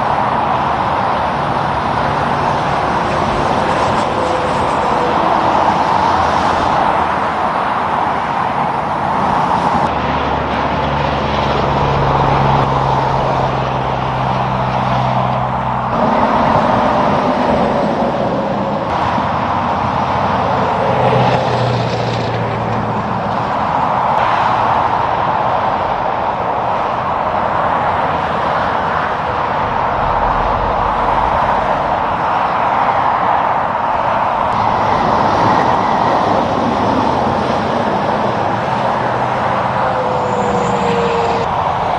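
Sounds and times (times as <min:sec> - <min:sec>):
heavy vehicle engine hum: 0:00.0 - 0:41.9
tyre noise of passing traffic: 0:00.0 - 0:41.9.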